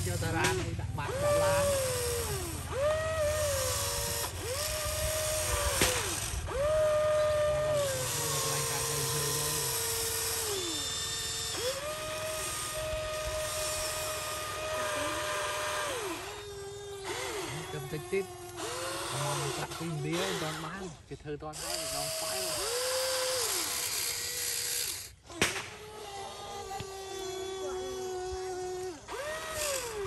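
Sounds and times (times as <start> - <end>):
toy excavator gear motors whining: 0.0 - 30.0.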